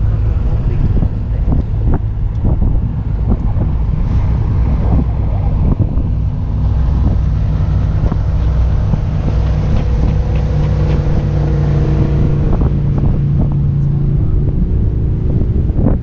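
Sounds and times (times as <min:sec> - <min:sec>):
boat engine running: 0:00.0 - 0:16.0
wind noise on microphone: 0:00.0 - 0:16.0.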